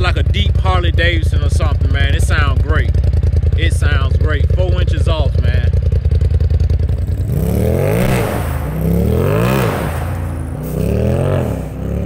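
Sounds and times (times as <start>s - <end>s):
engine revving with deep rumble: 0.0s - 12.0s.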